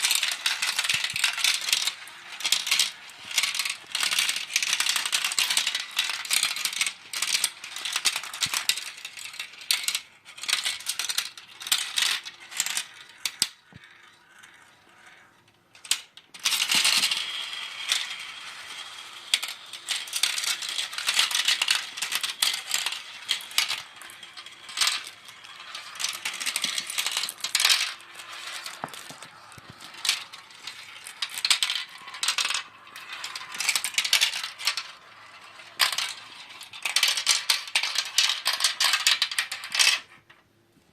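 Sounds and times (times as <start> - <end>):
marbles clattering through marble run: 0.0 - 40.3.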